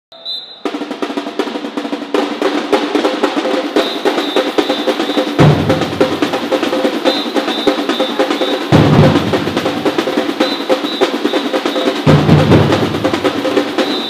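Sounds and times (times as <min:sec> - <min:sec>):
snare drums playing fast rhythm: 0:00.2 - 0:14.0
bass drums: 0:00.7 - 0:14.0.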